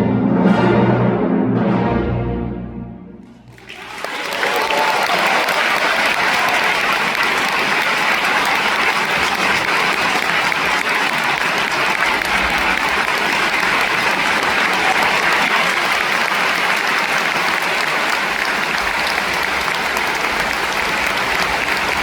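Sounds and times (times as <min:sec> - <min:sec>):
audience applauding: 0:03.5 - 0:22.0.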